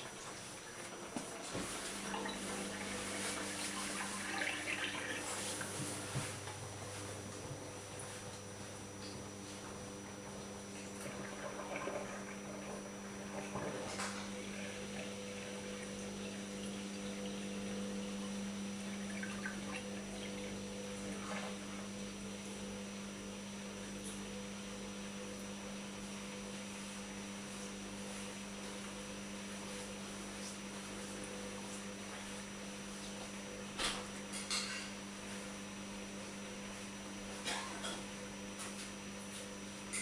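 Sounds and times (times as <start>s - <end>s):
electrical hum: 0.0s - 40.0s.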